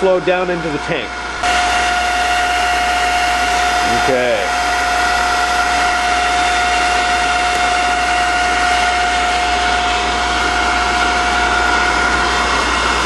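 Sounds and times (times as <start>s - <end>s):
centrifuge high whine: 0.0s - 13.0s.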